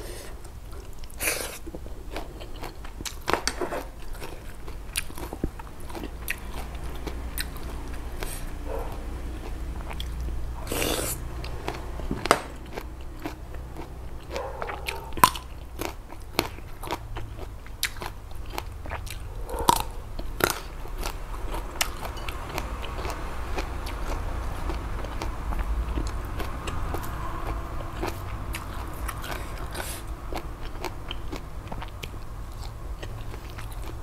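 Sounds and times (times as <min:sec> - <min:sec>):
crunchy vegetable chewing: 0:00.0 - 0:34.0.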